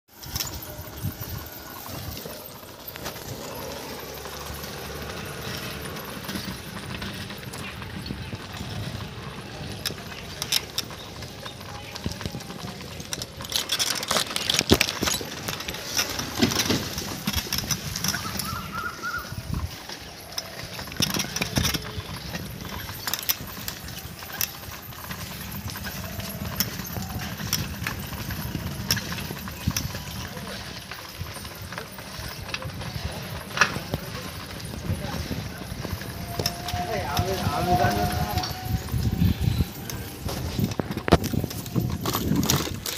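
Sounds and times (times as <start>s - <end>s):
knocks and rattles: 0.2s - 18.8s, 19.4s - 42.9s
wind rumbling on microphone: 0.2s - 42.9s.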